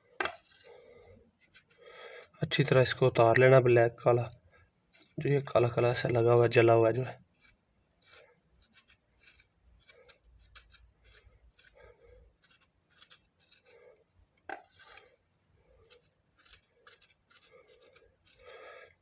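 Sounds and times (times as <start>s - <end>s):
rasping scrapes: 0.2s - 2.8s, 4.9s - 14.0s, 14.6s - 18.8s.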